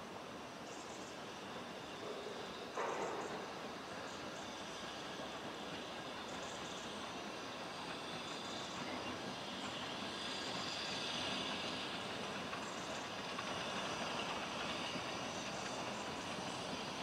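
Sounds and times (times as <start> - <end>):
distant steam train rumbling on rails: 0.0 - 17.0.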